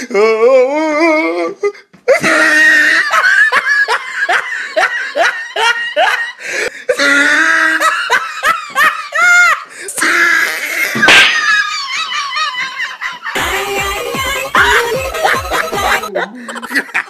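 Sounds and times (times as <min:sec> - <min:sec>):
person laughing heartily: 0:02.1 - 0:10.0, 0:10.6 - 0:17.0.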